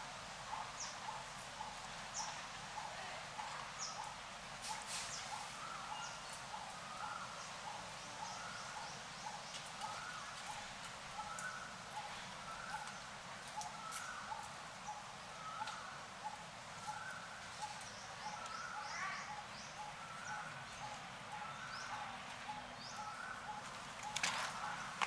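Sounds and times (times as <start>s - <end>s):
background hiss: 0.0s - 25.0s
birds calling: 0.5s - 25.0s.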